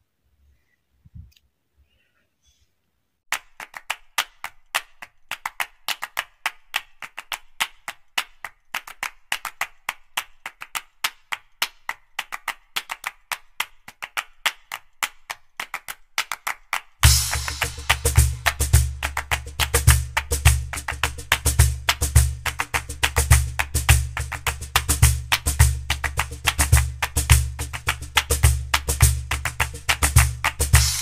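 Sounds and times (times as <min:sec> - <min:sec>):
percussive clap and click music: 0:03.3 - 0:31.0.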